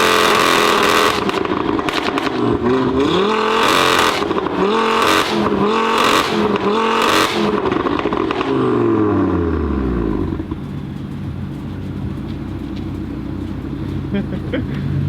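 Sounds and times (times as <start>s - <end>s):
turbocharged engine revving: 0.0s - 15.0s.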